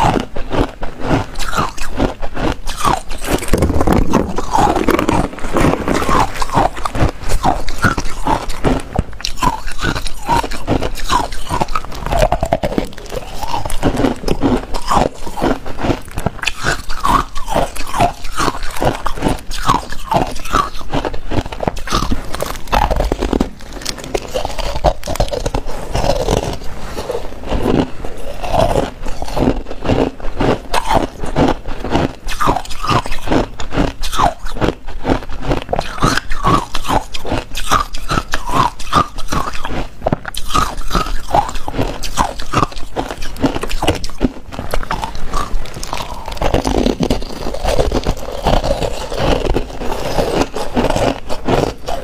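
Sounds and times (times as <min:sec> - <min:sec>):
ice being chewed: 0:00.0 - 0:52.0.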